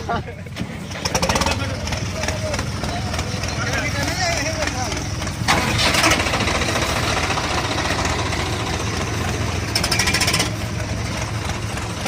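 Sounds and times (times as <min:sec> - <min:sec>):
tractor diesel engine knocking: 0:00.0 - 0:12.0.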